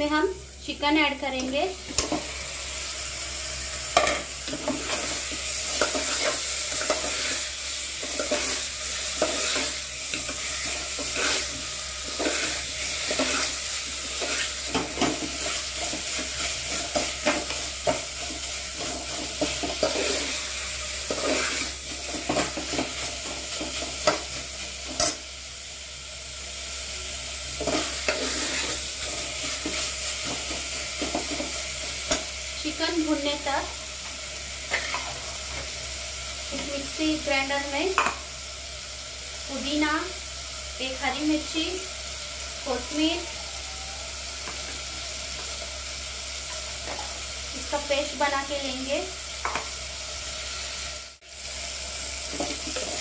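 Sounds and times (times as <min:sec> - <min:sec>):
chicken sizzling in hot oil: 0:00.0 - 0:53.0.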